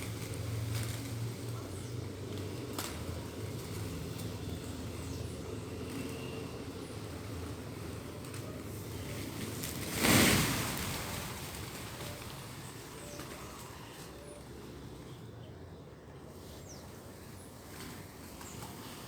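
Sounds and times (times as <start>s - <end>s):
small birds chirping: 0.0s - 9.8s, 12.0s - 19.0s
outdoor background noise: 0.0s - 19.0s.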